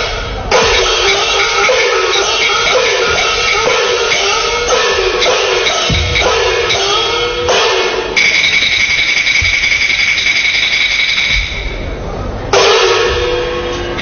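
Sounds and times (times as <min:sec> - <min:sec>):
gong stroke ringing: 0:00.0 - 0:14.0.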